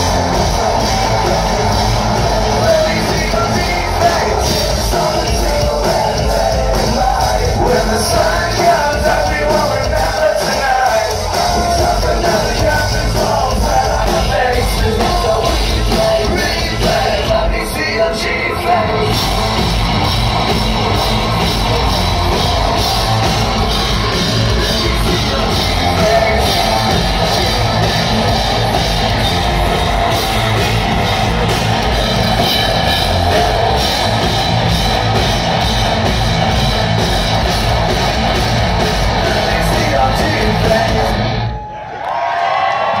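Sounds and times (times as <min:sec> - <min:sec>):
person singing: 0:00.0 - 0:34.8, 0:39.1 - 0:41.4
distorted electric guitars: 0:00.0 - 0:41.7
drums: 0:00.0 - 0:43.0.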